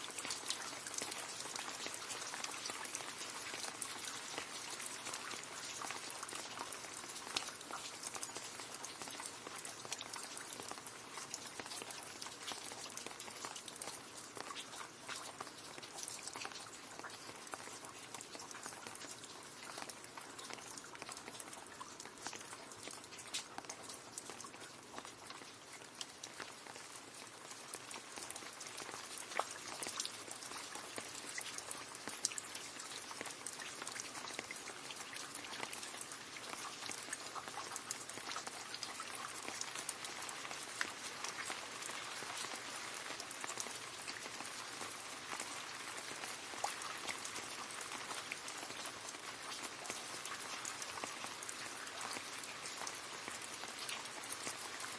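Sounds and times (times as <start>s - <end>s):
louder water drips: 0.0s - 54.9s
rain falling into a puddle: 0.0s - 54.9s.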